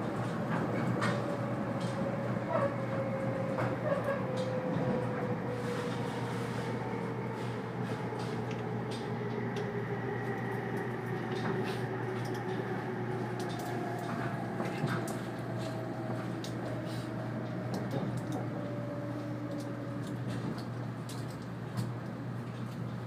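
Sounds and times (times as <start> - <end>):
train rumble with motor whine: 0.0 - 23.0.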